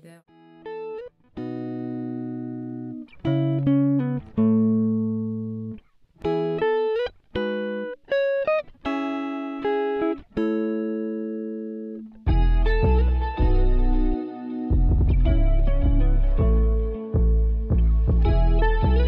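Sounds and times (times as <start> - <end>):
music chords: 0.0 - 19.0.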